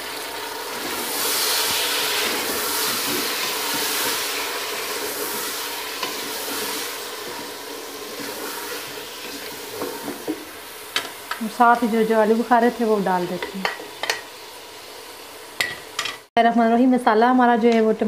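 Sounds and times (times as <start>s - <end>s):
vegetables sizzling in hot oil: 0.0s - 16.3s.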